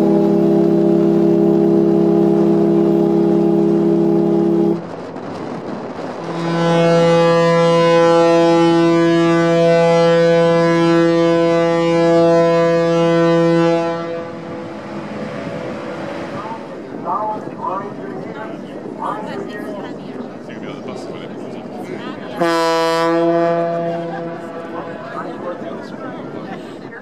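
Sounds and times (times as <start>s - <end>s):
deep ferry horn blasts: 0.0s - 4.9s, 6.2s - 26.7s.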